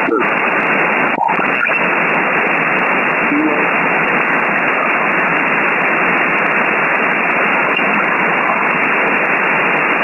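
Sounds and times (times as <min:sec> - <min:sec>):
shortwave radio hiss: 0:00.0 - 0:10.0.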